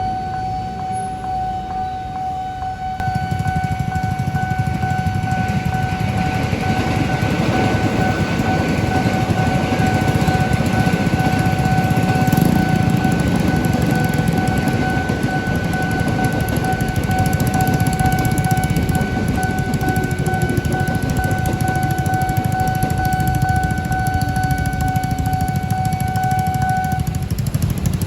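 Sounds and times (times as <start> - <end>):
level crossing warning tone: 0.0 - 27.5
train rumbling past: 0.0 - 28.0.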